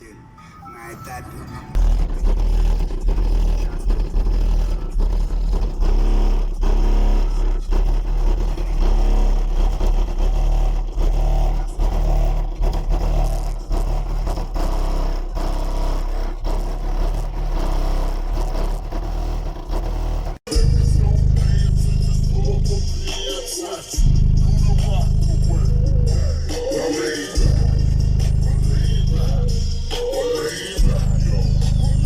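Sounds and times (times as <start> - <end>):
bass-heavy music through subwoofer: 1.8 - 32.0.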